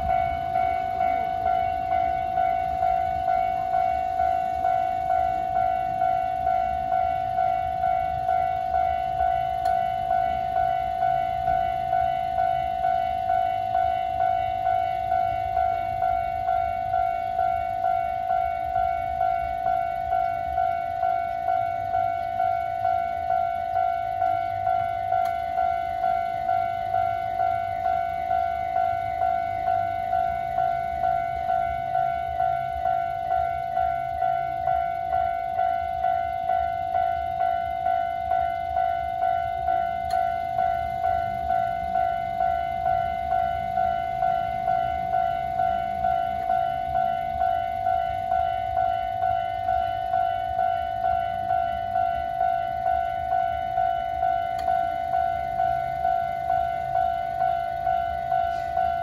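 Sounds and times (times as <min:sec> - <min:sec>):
level crossing bell dinging: 0:00.0 - 0:59.0.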